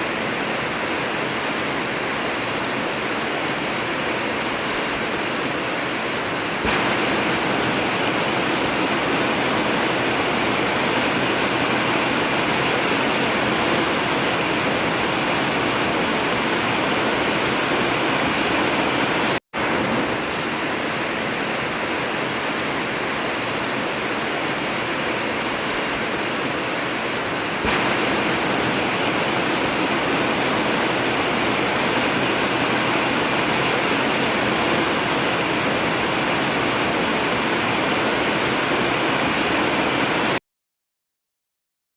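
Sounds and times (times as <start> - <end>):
heavy rain on a tin roof: 0.0 - 40.4.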